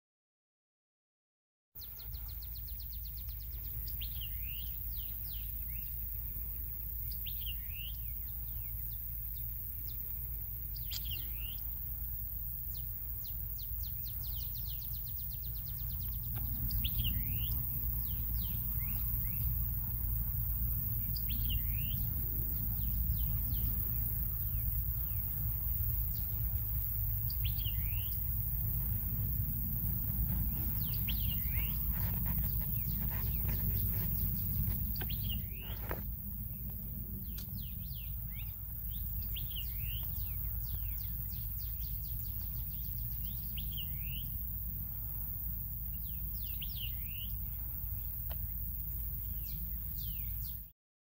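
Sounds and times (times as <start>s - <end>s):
songbird singing: 1.8s - 50.7s
steady low rumble: 2.1s - 50.3s.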